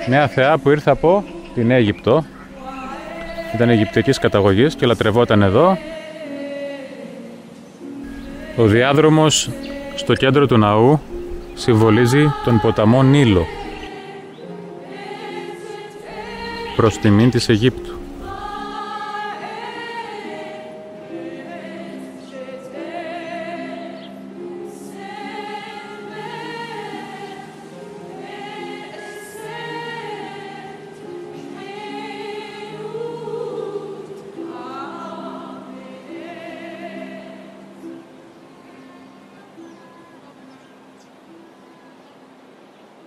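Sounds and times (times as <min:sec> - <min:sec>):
choir singing long notes: 0:00.0 - 0:43.0.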